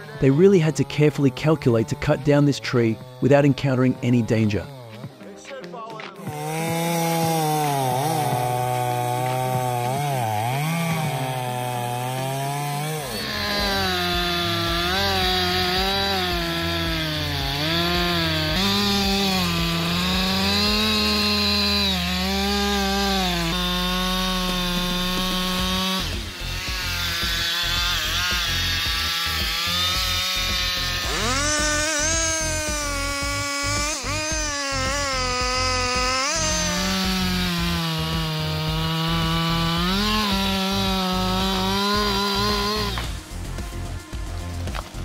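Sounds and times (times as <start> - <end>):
chainsaw cutting under load: 0.0 - 45.0.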